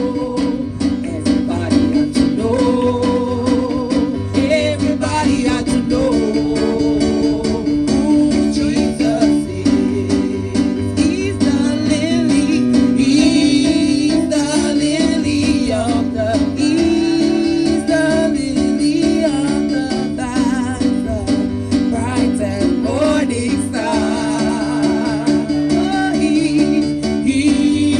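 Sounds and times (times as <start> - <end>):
gospel singing: 0.0 - 27.9
guitar accompaniment: 0.0 - 27.9.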